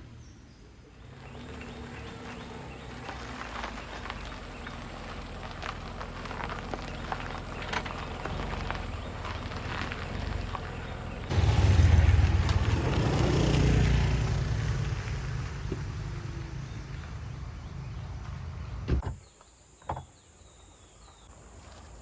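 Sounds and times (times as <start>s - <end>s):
vehicle engine rumbling past: 0.0s - 18.9s.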